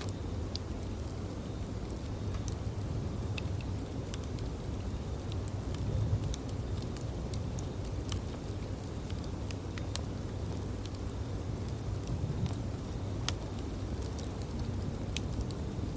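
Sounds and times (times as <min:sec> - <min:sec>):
bonfire flames rumbling: 0:00.0 - 0:15.9
fire crackles and pops: 0:00.0 - 0:15.9.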